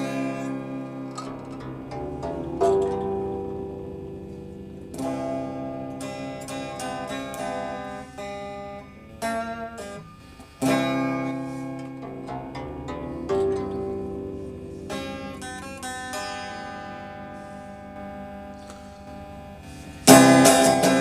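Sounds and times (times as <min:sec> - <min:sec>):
plucked string instrument: 0:00.0 - 0:21.0.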